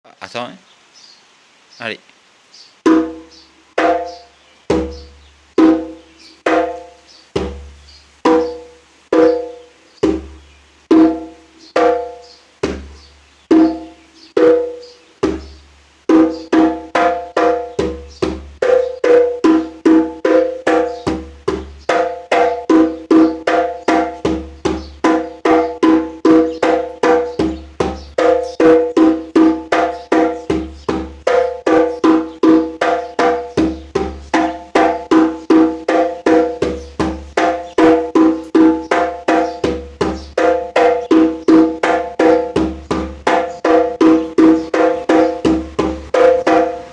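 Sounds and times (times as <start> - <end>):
djembe hand strokes: 2.9 - 46.9.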